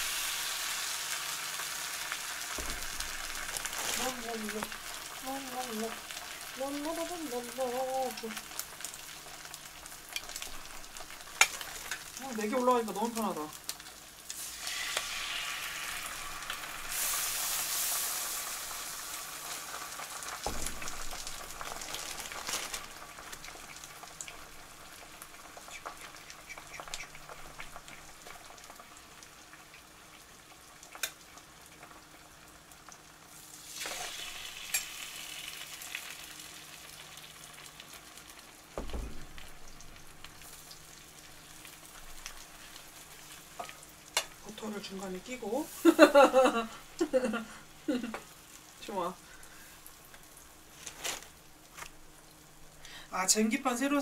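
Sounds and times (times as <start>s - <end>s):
bread sizzling on a griddle: 0.0s - 54.0s.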